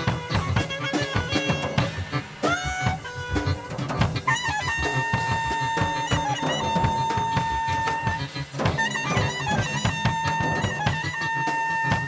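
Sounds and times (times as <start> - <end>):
clarinet high note: 0.0 - 12.0
drum kit: 0.0 - 12.0.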